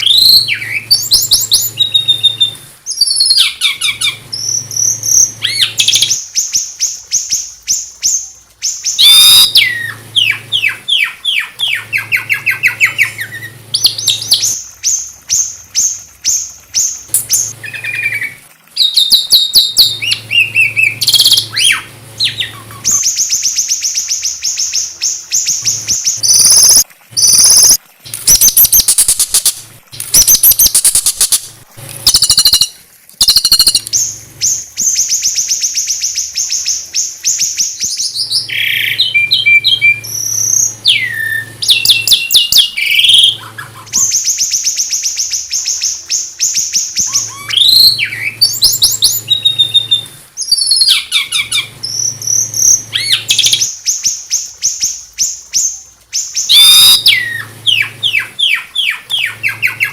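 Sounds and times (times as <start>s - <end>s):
bird gliding whistles: 0.0s - 29.5s, 30.1s - 55.4s, 56.3s - 59.9s
songbirds trilling: 0.0s - 59.9s.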